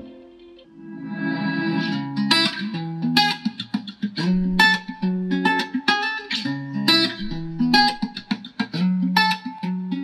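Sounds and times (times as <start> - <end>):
guitar music with bass line: 0.0 - 10.0.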